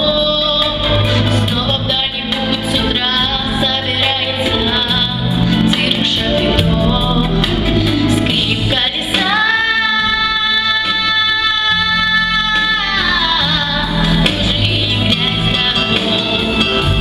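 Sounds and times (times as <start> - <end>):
girl singing: 0.0 - 17.0
pop backing track: 0.0 - 17.0.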